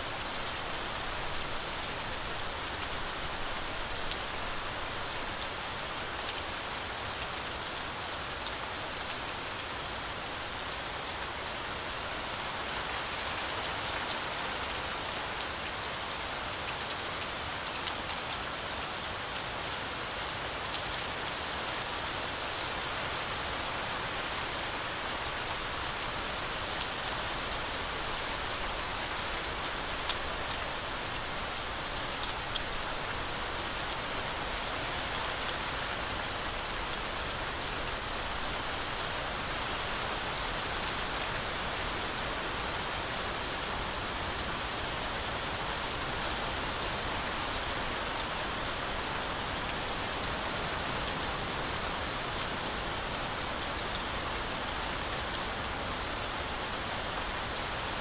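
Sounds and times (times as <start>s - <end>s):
heavy rain through forest canopy: 0.0s - 58.0s.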